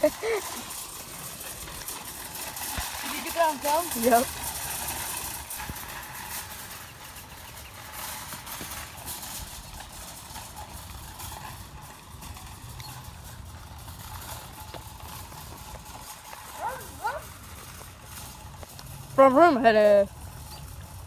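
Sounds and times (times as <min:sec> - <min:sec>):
footsteps on asphalt: 0:00.0 - 0:21.0
shopping cart wheels rattling: 0:00.0 - 0:21.0.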